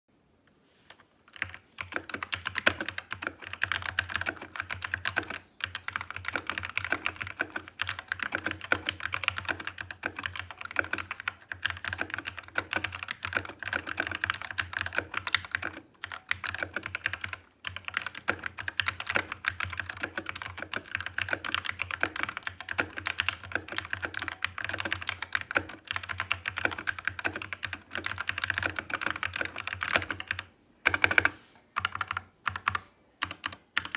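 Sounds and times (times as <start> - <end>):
mechanical keyboard typing: 1.3 - 33.9.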